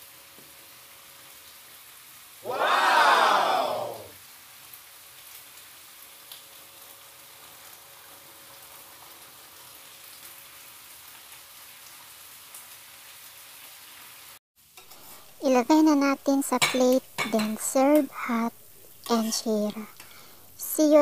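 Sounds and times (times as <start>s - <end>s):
small pops of frying food: 0.0s - 1.9s, 4.5s - 15.4s, 16.2s - 20.6s
food sizzling in a frying pan: 0.0s - 21.0s.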